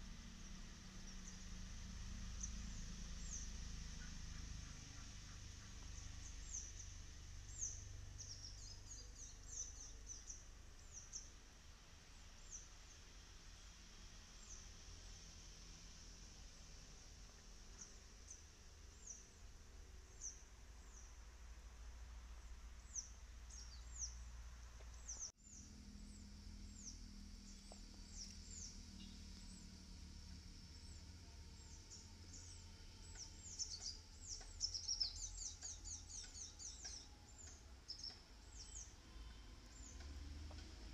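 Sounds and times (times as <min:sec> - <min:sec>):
small birds chirping: 0:00.0 - 0:21.3, 0:22.3 - 0:40.9.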